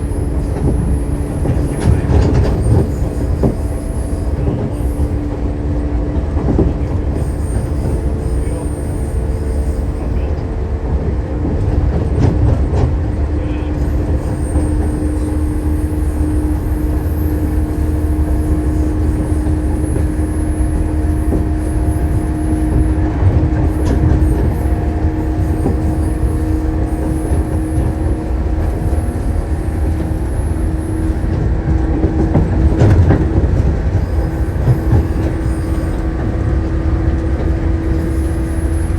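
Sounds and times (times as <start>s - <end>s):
clacks over rail joints: 0.0s - 38.9s
electric train hum: 0.0s - 38.9s
train wheels rumbling: 0.0s - 38.9s.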